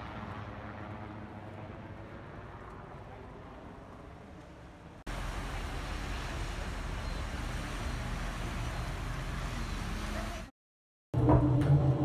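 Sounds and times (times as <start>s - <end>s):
beach ambience with low rumble: 0.0s - 10.5s.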